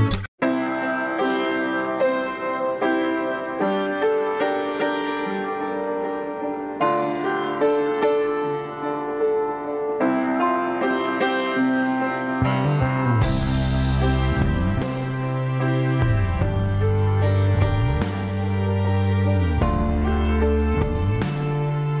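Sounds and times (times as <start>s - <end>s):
slow keyboard melody: 0.0s - 22.0s.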